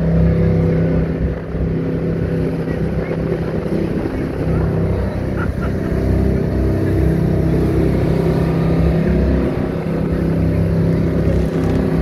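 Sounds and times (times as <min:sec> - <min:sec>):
jet boat engine drone: 0:00.0 - 0:12.0.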